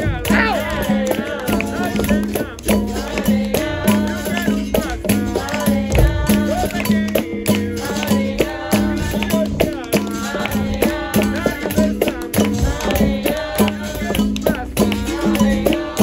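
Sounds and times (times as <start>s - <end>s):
rattles and hand percussion: 0.0s - 16.0s
voices singing: 0.0s - 16.0s.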